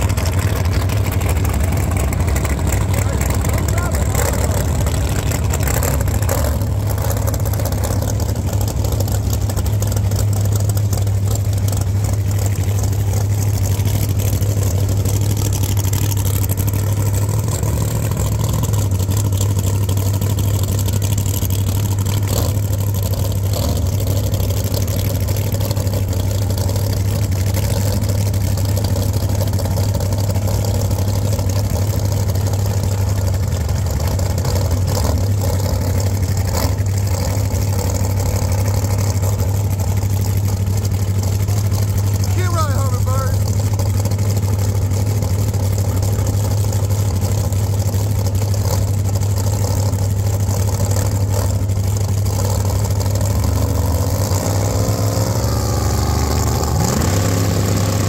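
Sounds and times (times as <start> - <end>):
loud car engine idling: 0.0 - 58.0.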